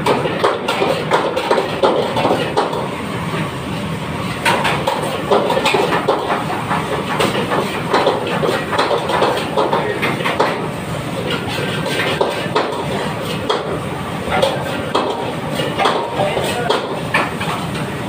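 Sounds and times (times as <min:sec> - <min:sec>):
pots and pans clattering: 0:00.0 - 0:02.9, 0:04.4 - 0:17.7
steady background noise: 0:00.0 - 0:18.0.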